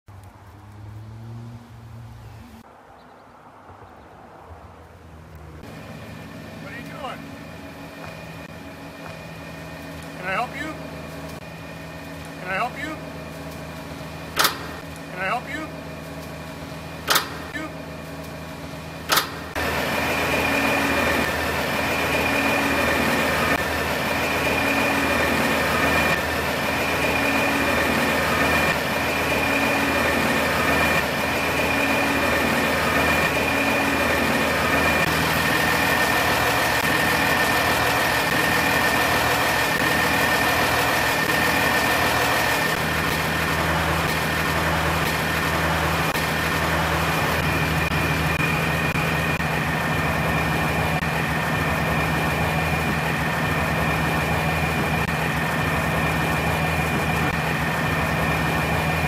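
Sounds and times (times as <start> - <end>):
diesel engine idling: 4.8 - 59.0.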